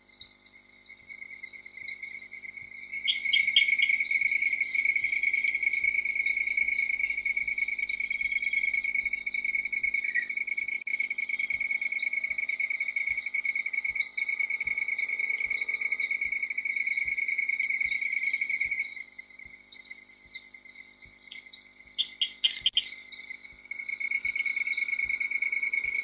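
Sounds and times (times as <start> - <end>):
insect trilling: 0.0 - 26.0.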